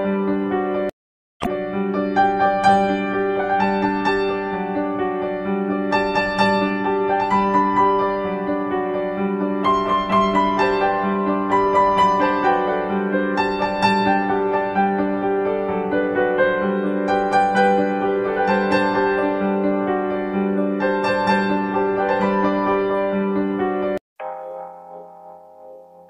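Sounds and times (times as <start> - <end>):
keyboard music: 0.0 - 26.0.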